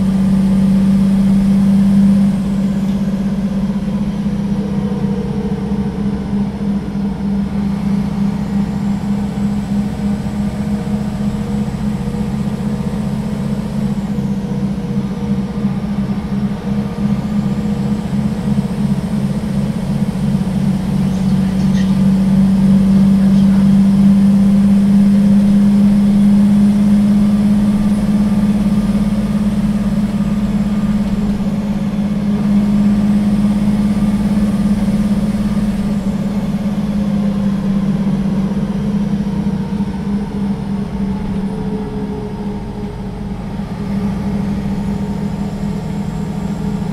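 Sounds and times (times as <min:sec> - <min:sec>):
bus diesel engine drone: 0:00.0 - 0:46.9.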